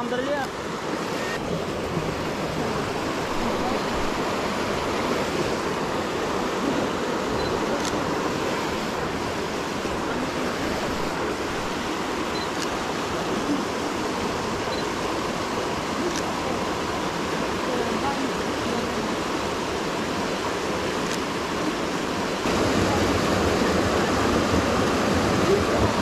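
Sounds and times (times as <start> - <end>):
water rushing over rocks: 0.0 - 26.0.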